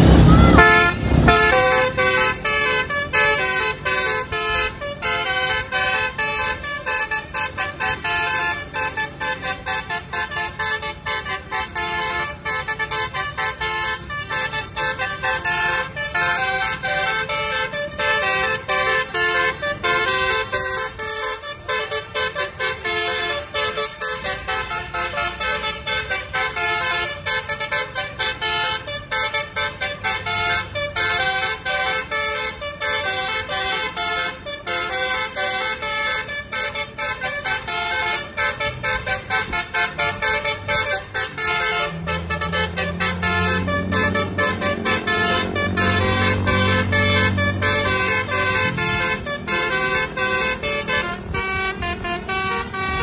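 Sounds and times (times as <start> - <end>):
bus horns playing a melody: 0.0 - 53.0
low road rumble: 0.0 - 53.0.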